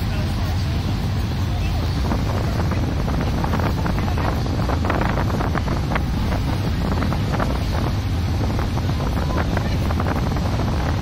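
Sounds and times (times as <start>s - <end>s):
boat engine rumble: 0.0s - 11.0s
rushing water: 0.0s - 11.0s
wind buffeting microphone: 0.0s - 11.0s.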